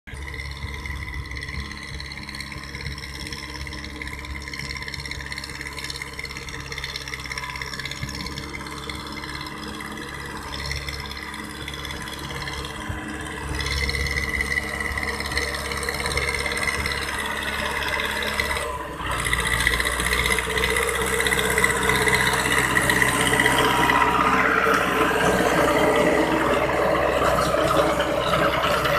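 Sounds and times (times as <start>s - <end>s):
diesel tractor engine running: 0.1s - 28.9s.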